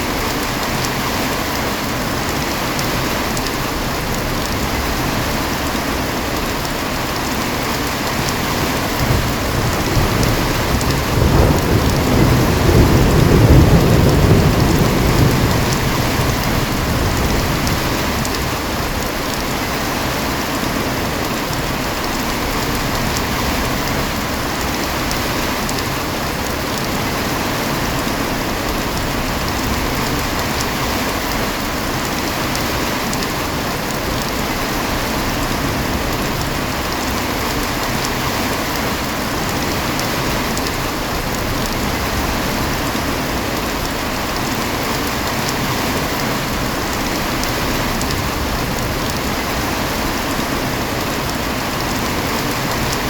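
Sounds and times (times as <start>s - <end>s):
heavy rain: 0.0s - 53.0s
thunder rumbling: 0.0s - 53.0s.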